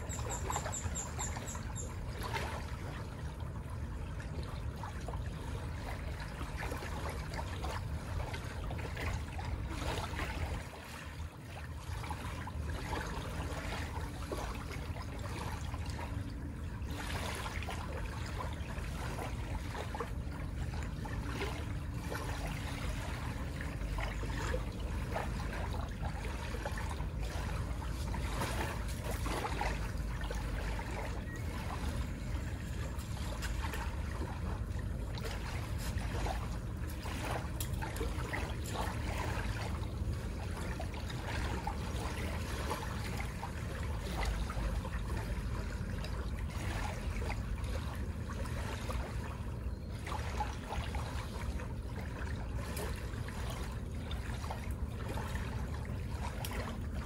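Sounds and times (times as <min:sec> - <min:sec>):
small waves washing on shore: 0:00.0 - 0:57.0.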